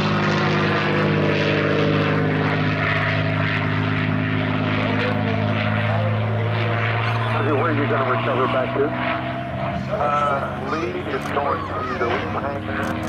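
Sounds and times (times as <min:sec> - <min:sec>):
propeller plane engine: 0:00.0 - 0:13.0.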